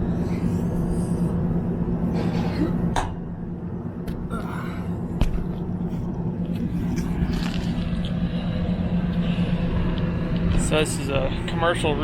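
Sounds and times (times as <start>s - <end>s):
air conditioner humming: 0.0s - 12.0s
low rumble: 0.0s - 12.0s.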